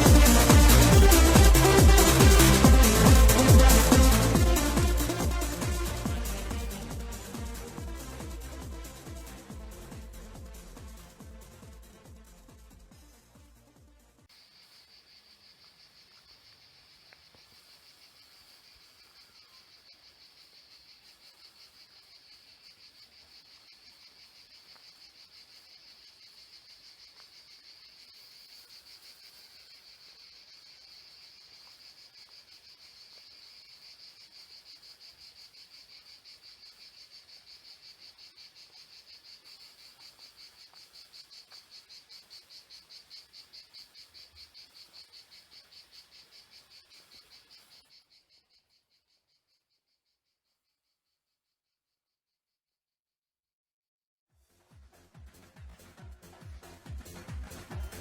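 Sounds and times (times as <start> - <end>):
cicadas buzzing: 0.0 - 12.3, 14.3 - 50.0.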